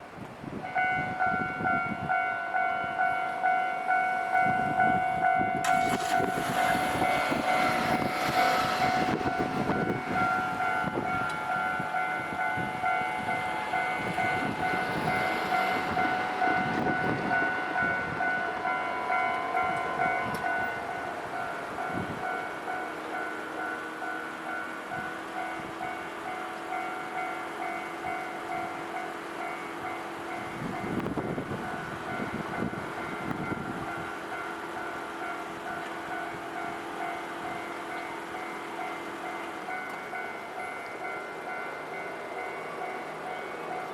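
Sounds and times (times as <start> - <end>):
train passing: 0.0 - 43.9
level-crossing alarm clanging: 0.7 - 43.9.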